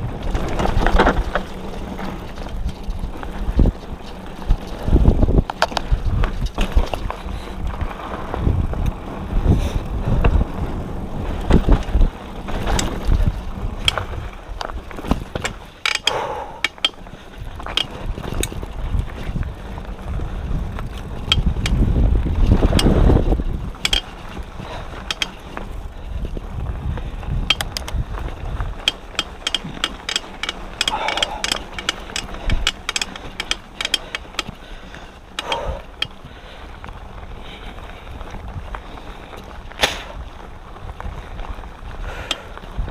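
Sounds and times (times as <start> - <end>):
bike drivetrain rattling and ticking: 0.0 - 42.9
tyre and wind rumble: 0.0 - 42.9.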